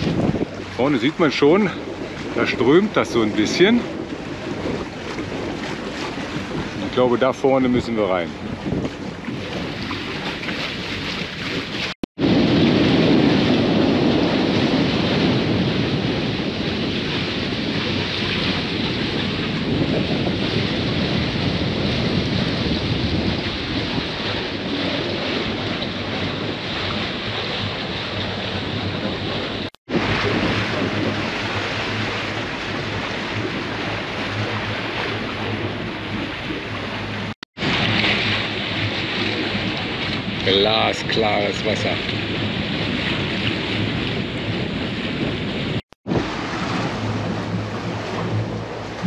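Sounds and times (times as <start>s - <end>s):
water rushing along hull: 0.0s - 49.0s
wind buffeting microphone: 0.0s - 49.0s.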